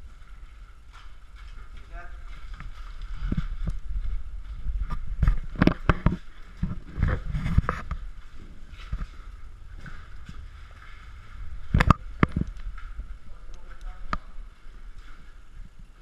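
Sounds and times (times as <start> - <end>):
footsteps: 0.0 - 16.0
low rumble: 0.0 - 16.0.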